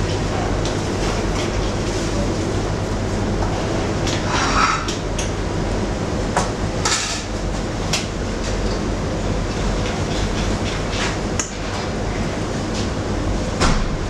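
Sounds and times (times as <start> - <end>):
kitchen equipment running: 0.0 - 14.0.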